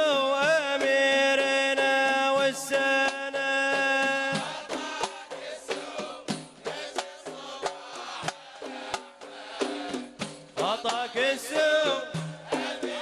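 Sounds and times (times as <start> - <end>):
drums and percussion: 0.0 - 13.0.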